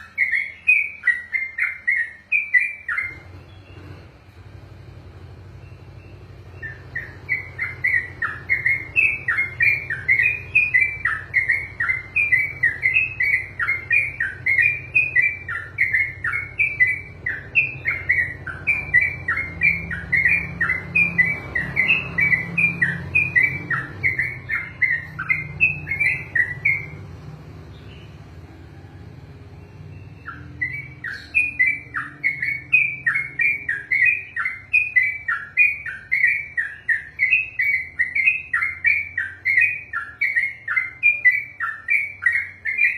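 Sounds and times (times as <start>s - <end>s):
bird singing whistled notes: 0.0s - 42.9s.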